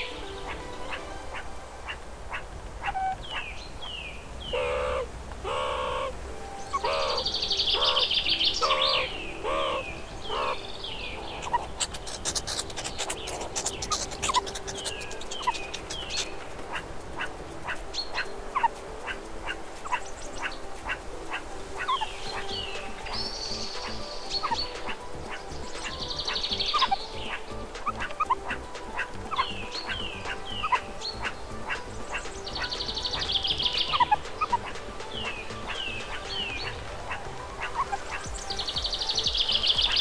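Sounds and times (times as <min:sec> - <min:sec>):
dense high bird trill: 0:00.0 - 0:40.0
low repeated bird call: 0:00.0 - 0:40.0.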